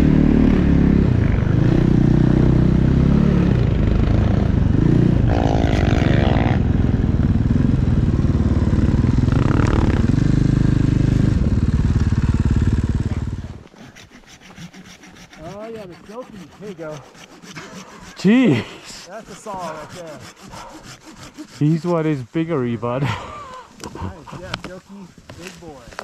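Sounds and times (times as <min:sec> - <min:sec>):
snow bike engine revving: 0:00.0 - 0:23.4.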